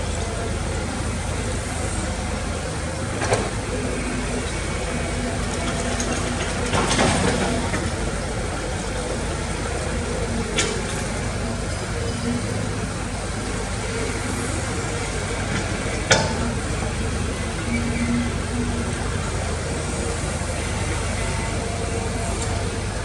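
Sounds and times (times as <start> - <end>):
diesel engine running: 0.0 - 23.0
noisy clatter: 0.0 - 23.0.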